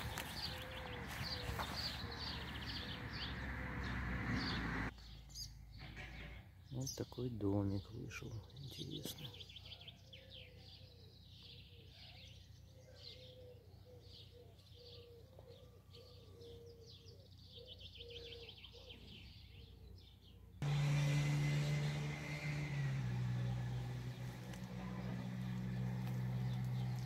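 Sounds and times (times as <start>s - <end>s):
small birds chirping: 0.0s - 20.6s, 23.4s - 27.0s.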